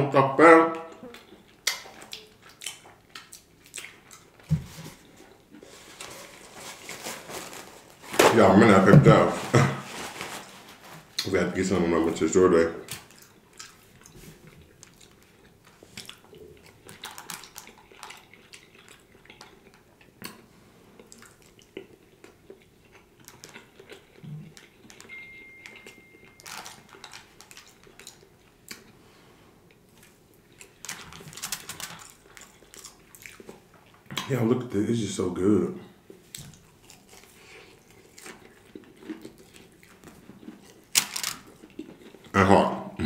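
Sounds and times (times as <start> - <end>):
man chewing: 0.8 - 8.0, 12.8 - 34.2, 35.9 - 42.4.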